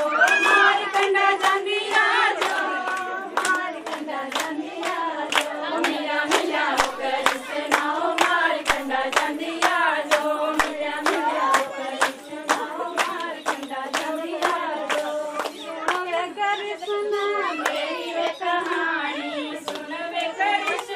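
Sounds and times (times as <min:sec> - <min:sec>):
hand claps: 0:00.0 - 0:16.4, 0:17.5 - 0:18.9, 0:19.5 - 0:20.9
women singing folk song: 0:00.0 - 0:20.9.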